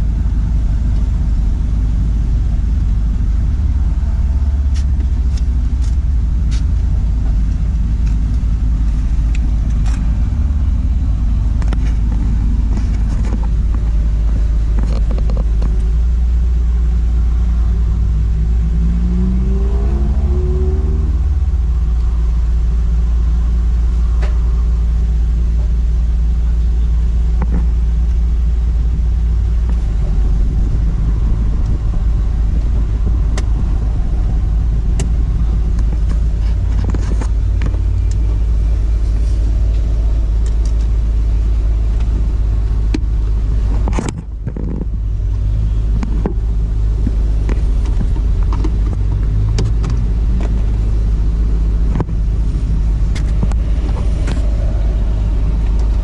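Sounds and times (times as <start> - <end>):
small car engine idling: 0.0 - 19.2, 20.0 - 56.0.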